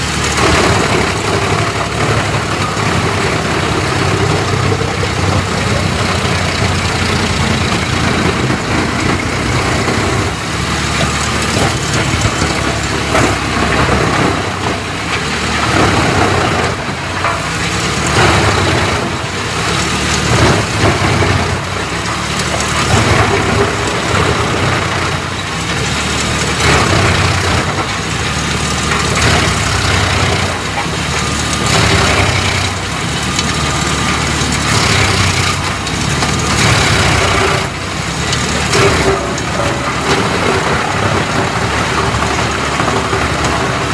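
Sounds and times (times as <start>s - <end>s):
wood chipper running: 0.0s - 43.9s.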